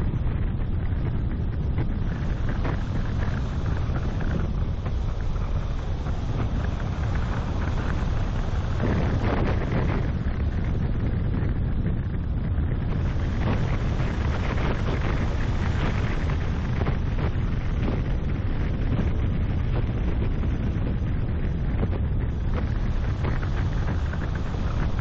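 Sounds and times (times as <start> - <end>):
road and engine rumble: 0.0 - 25.0
wind buffeting microphone: 0.0 - 25.0.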